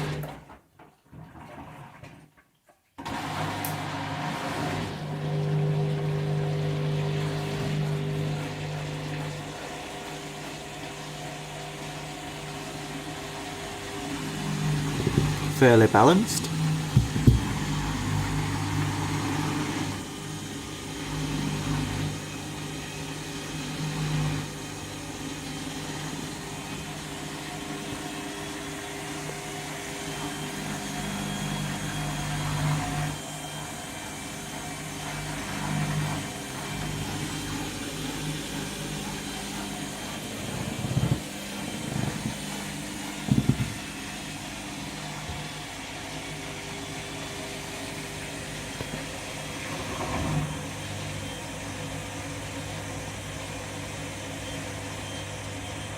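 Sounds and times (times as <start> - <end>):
washing machine drum spinning: 3.0 - 55.9.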